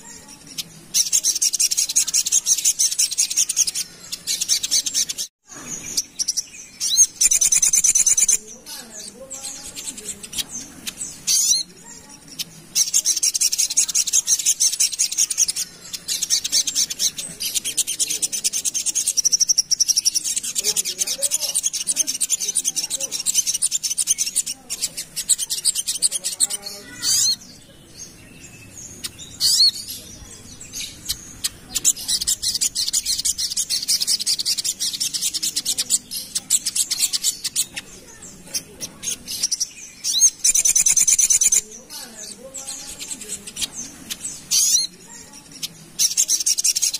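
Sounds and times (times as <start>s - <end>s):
bird chattering song: 0.0s - 46.9s.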